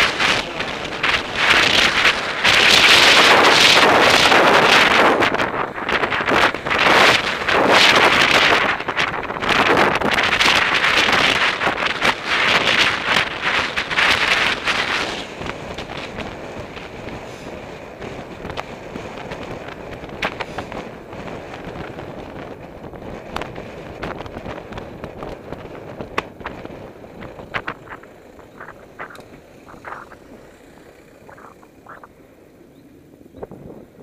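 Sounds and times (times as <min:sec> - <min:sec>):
road and tyre noise: 0:00.0 - 0:34.0
wind buffeting microphone: 0:00.0 - 0:34.0.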